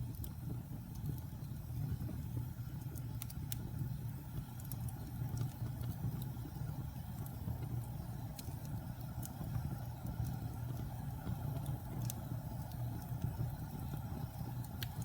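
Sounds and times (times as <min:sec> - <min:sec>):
burning logs crackling and popping: 0:00.0 - 0:15.0
flames rumbling: 0:00.0 - 0:15.0.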